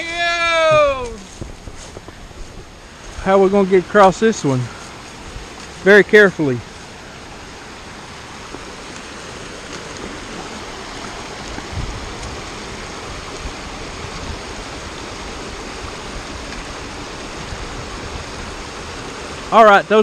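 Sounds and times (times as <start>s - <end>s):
stream rushing over stones: 0.0s - 20.0s.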